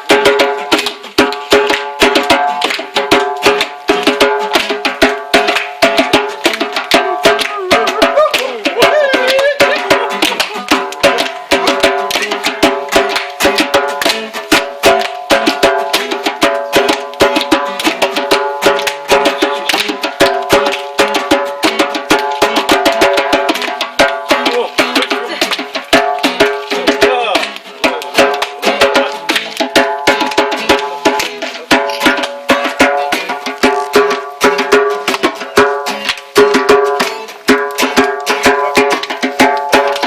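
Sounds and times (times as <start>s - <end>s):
hand drumming: 0.0s - 40.0s.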